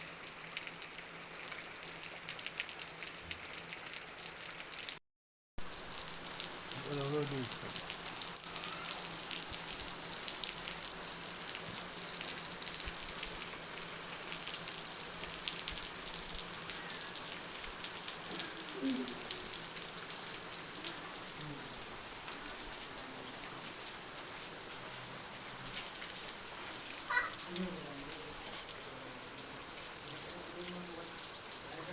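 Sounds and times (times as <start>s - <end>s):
steady rain falling: 0.0s - 5.0s, 5.6s - 31.9s.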